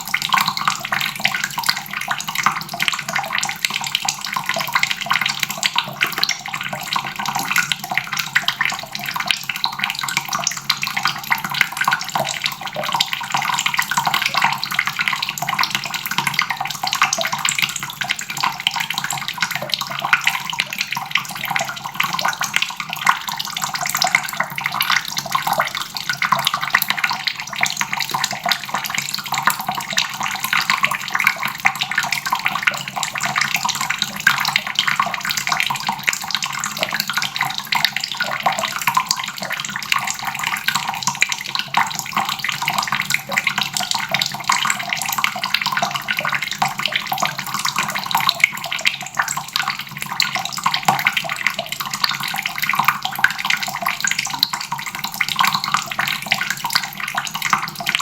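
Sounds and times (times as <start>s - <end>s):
faucet water splashing into basin: 0.0s - 58.0s.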